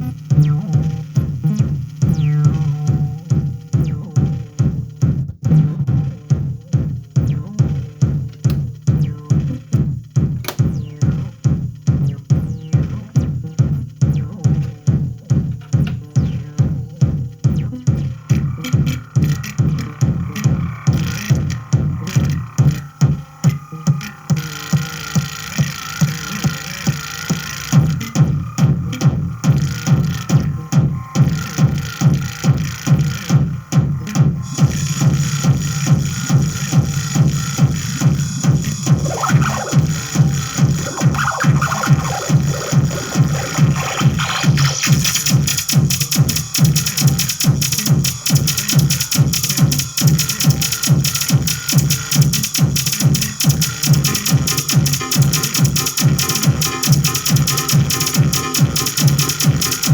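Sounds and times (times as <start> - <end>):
electronic music bass pulse: 0.0 - 59.9.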